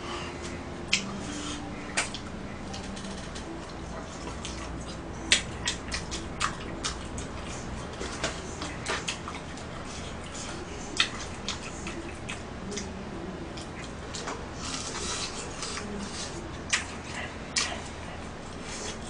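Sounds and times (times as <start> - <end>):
mouth smacks while chewing: 0.4 - 2.3, 3.4 - 19.0.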